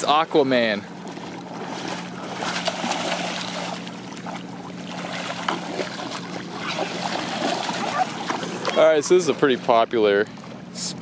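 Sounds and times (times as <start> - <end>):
shallow water splashing: 0.0 - 10.8.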